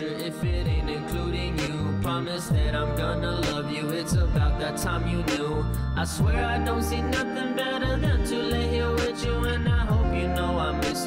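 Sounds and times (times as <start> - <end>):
background music with steady beat: 0.0 - 11.0
deep sliding bass notes: 0.5 - 11.0.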